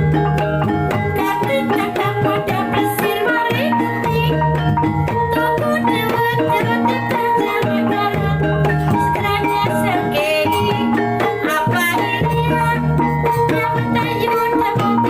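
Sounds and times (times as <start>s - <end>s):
hand drums beating fast rhythm: 0.0s - 15.0s
held pitched notes: 0.0s - 15.0s.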